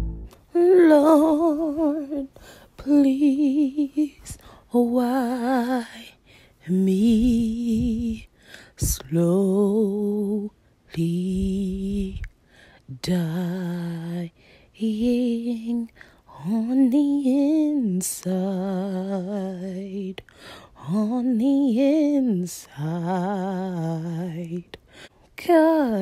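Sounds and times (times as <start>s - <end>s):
woman singing with vibrato: 0.0s - 12.3s, 12.9s - 20.2s, 20.8s - 24.8s, 25.4s - 26.0s.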